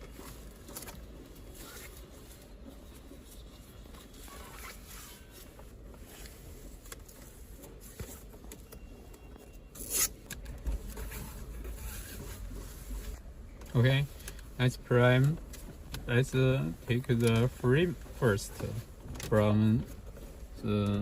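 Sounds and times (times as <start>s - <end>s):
soft rustling and scrapes: 0.0s - 21.0s.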